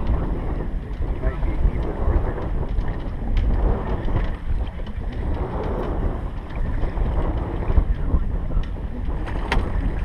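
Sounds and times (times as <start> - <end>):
small boat noise: 0.0 - 10.0
wind buffeting microphone: 0.0 - 10.0.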